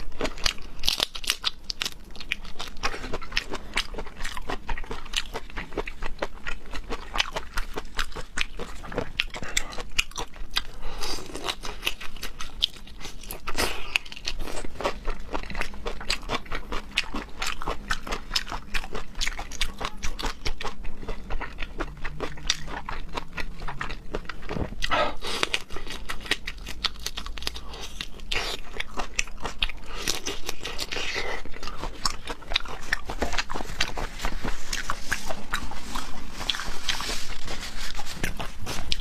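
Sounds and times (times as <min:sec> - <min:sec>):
wet crunchy chewing: 0:00.0 - 0:39.0.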